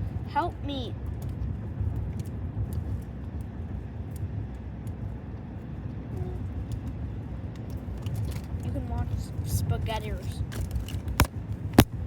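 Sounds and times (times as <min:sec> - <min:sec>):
car road noise inside cabin: 0:00.0 - 0:12.0.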